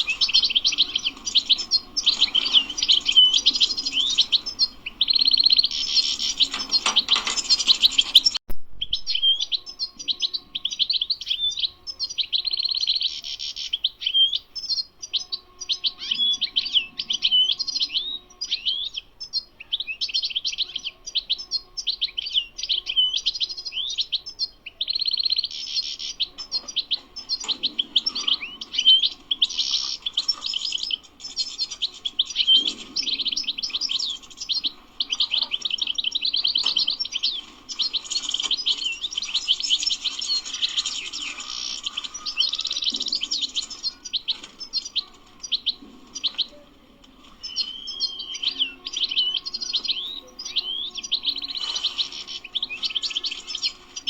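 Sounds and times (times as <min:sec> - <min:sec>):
goldfinch twittering: 0:00.0 - 0:46.6, 0:47.2 - 0:54.0.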